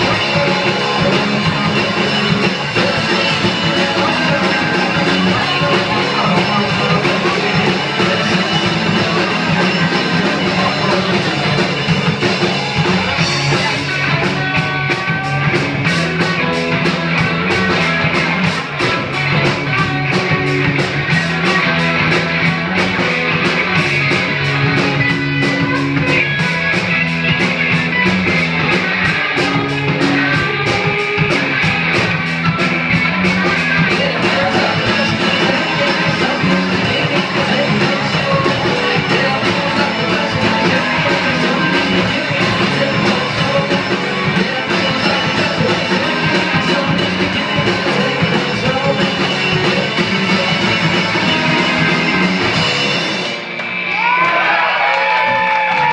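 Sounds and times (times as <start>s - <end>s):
drum kit: 0.0s - 55.9s
electric guitars: 0.0s - 55.9s.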